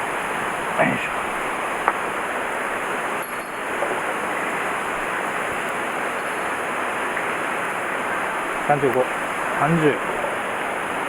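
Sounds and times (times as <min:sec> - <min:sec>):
fast-flowing mountain stream: 0:00.0 - 0:11.0.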